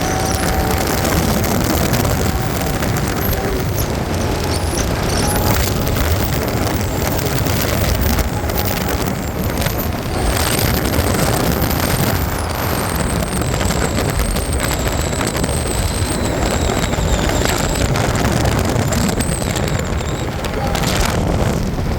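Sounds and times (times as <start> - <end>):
high-pitched wavering squeak: 0.0 - 21.2
loud rumble: 0.0 - 21.9
wind buffeting microphone: 0.0 - 21.9.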